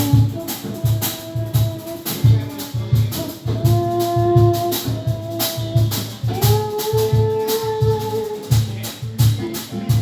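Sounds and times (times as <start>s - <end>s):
bass and drum pulse: 0.0s - 10.0s
bossa nova band music: 0.0s - 10.0s.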